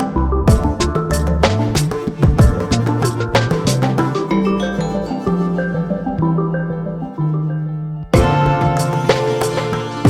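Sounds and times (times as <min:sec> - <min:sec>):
plucked instruments with percussive beat: 0:00.0 - 0:06.9, 0:08.2 - 0:10.0.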